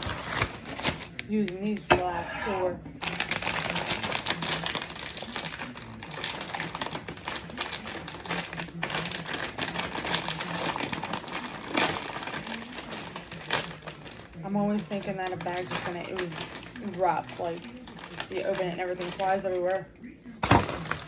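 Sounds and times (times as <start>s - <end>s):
plastic snack bag crinkling: 0.0s - 21.0s.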